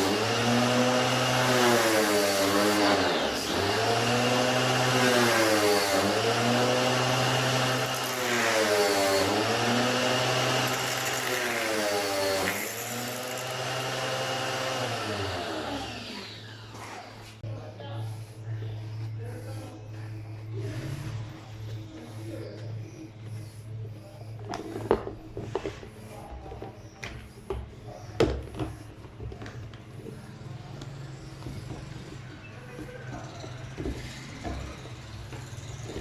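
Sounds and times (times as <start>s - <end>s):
vacuum cleaner motor whining: 0.0s - 17.4s, 19.0s - 36.0s.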